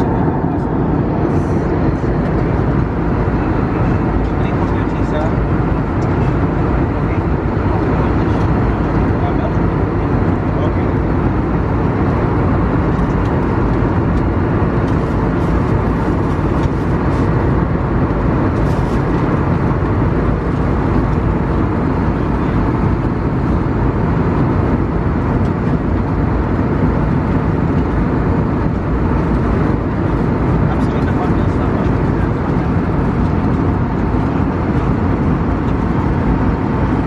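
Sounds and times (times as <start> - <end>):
airliner cabin noise: 0.0 - 37.0.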